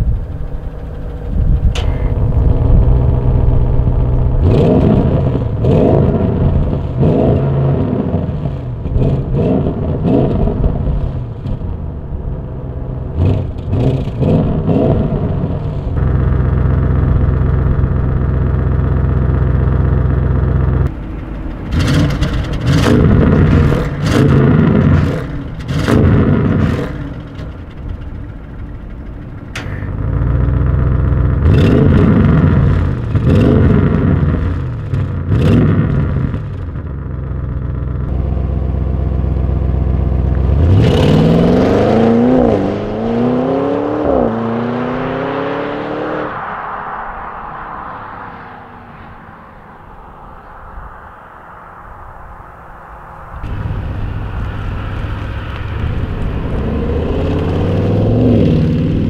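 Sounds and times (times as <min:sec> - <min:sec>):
exhaust crackles and pops: 0:00.0 - 0:42.9, 0:50.1 - 0:59.0
car engine revving: 0:00.0 - 0:59.0.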